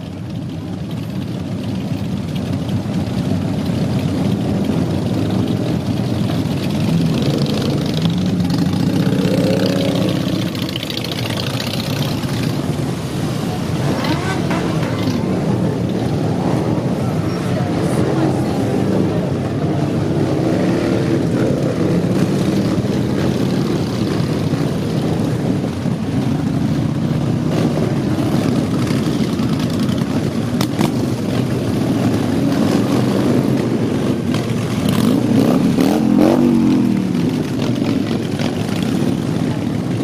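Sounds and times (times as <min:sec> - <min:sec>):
motorcycle revving: 0:00.0 - 0:40.0
motorcycles riding past: 0:00.0 - 0:40.0.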